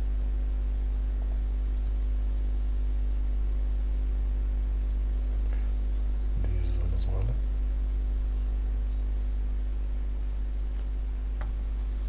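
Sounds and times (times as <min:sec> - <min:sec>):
constant hiss: 0:00.0 - 0:12.0
low mains hum: 0:00.0 - 0:12.0.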